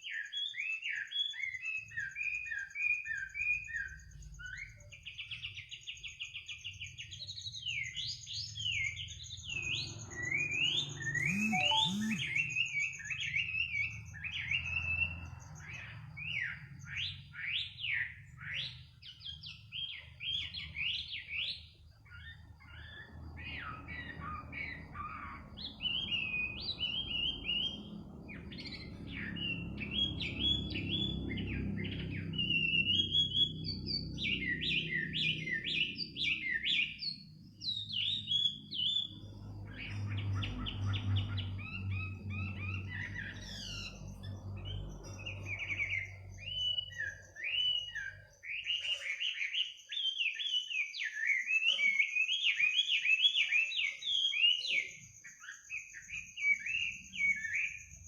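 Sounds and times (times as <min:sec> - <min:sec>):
songbird chirping and trilling: 0:00.0 - 0:58.0.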